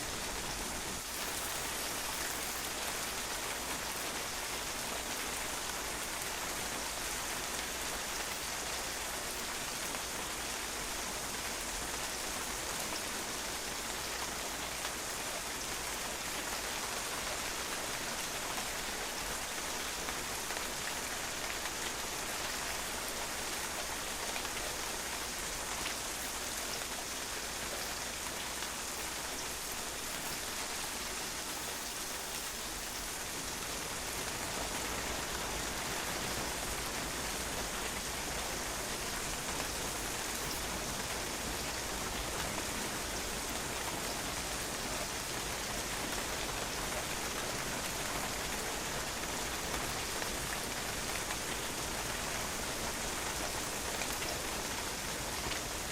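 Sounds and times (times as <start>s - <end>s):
rain pattering on patio: 0.0s - 55.9s.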